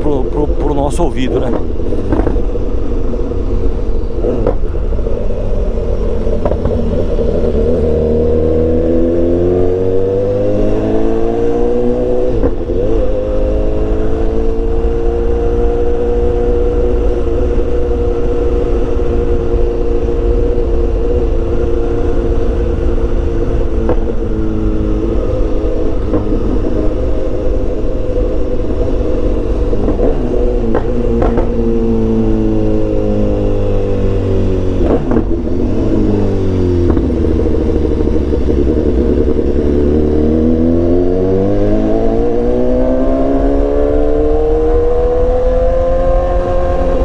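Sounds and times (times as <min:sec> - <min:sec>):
motorcycle engine revving: 0:00.0 - 0:47.0
wind noise: 0:00.0 - 0:47.0.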